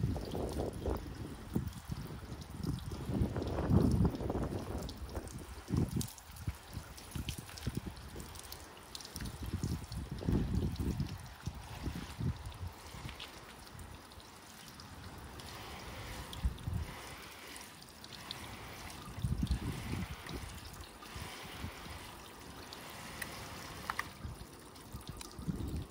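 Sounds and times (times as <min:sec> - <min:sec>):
hose spraying water on car: 0:00.0 - 0:25.9.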